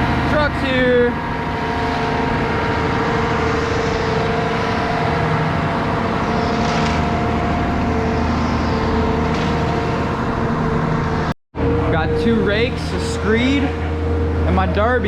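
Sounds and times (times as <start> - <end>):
truck engine rumbling with whine: 0.0 - 15.0.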